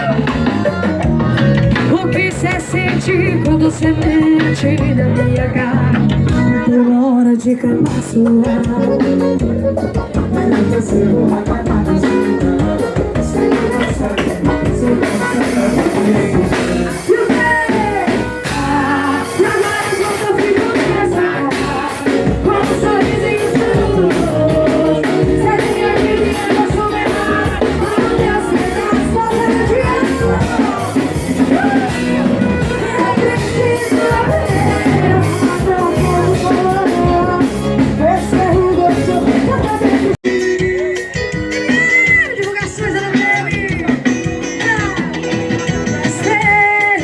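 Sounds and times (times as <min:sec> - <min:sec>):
live band music: 0:00.0 - 0:47.0.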